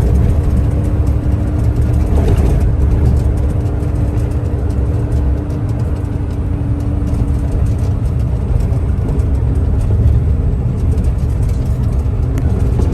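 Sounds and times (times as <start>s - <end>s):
diesel engine low rumble: 0.0s - 12.9s.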